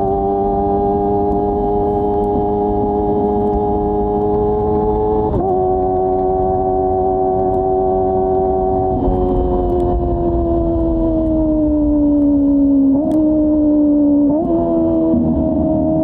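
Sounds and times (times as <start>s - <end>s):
motorcycle engine revving high: 0.0s - 16.0s.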